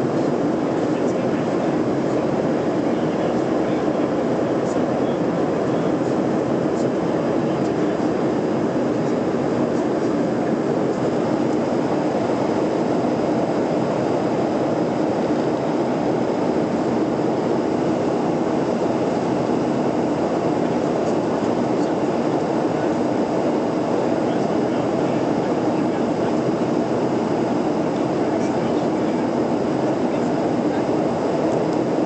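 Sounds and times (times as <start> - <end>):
jet airliner cabin noise: 0.0 - 32.0.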